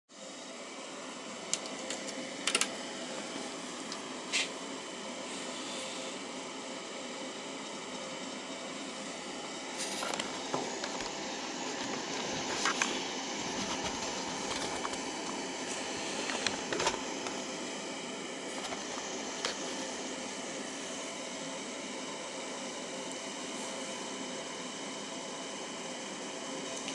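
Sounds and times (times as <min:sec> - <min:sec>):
machine hum and hiss: 0:00.1 - 0:26.9.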